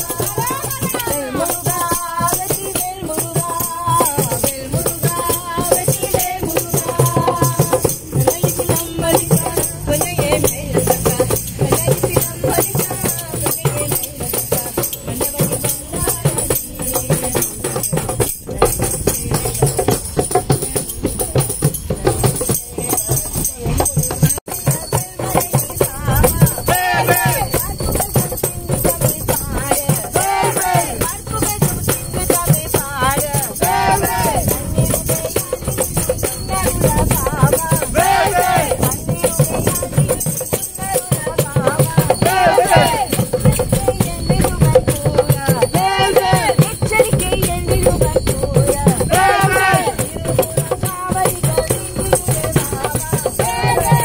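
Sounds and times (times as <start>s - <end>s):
rapid hand percussion rattling: 0.0s - 54.0s
voices singing: 0.0s - 54.0s.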